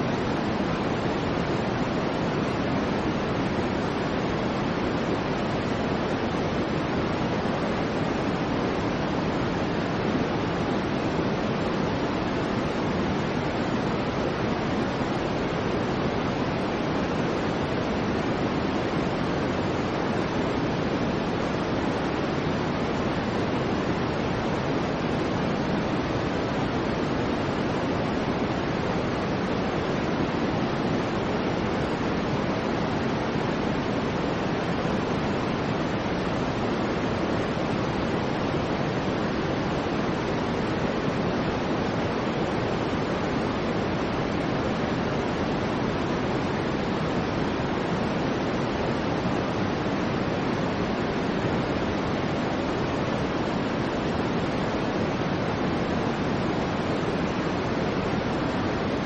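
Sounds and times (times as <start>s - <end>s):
low white noise hiss: 0.0s - 59.0s.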